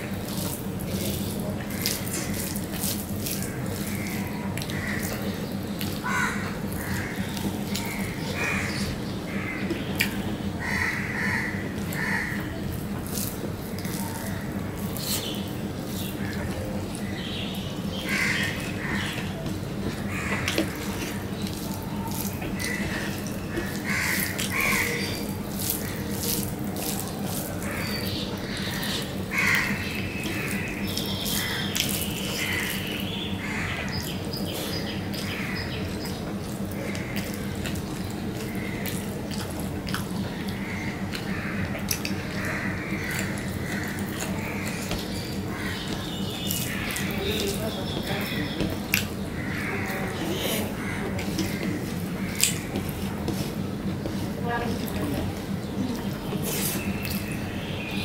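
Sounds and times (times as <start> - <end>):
steady low hum: 0.0 - 58.0
wet squishing of food by hand: 0.0 - 58.0
mouth chewing and smacking: 0.1 - 8.4, 9.6 - 10.3, 11.8 - 17.2, 18.4 - 57.6.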